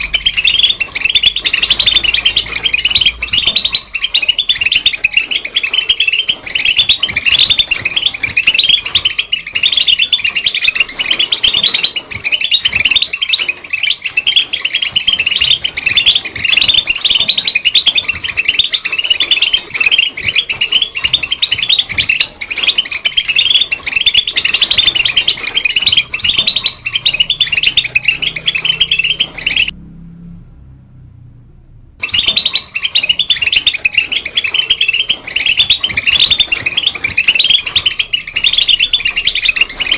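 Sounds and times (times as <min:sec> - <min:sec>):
goldfinch singing: 0:00.0 - 0:29.7, 0:32.0 - 0:39.9.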